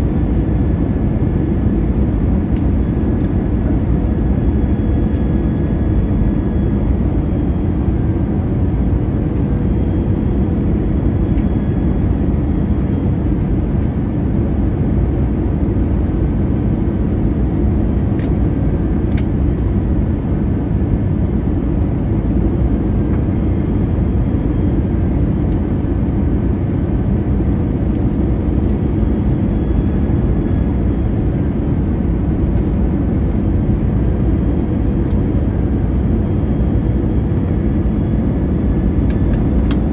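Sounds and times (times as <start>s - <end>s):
jet airliner engine rumble: 0.0s - 39.9s.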